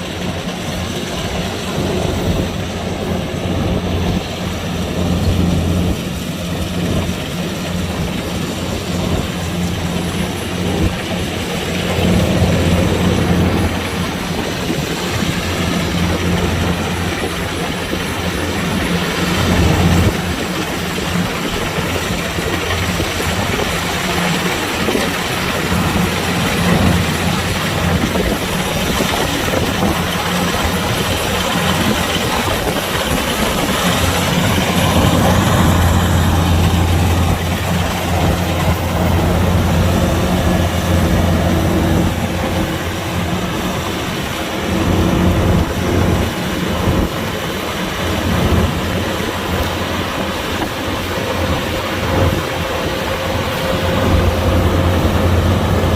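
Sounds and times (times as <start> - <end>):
combine harvester engine hum: 0.0 - 55.9
cutting and threshing machinery: 0.0 - 55.9.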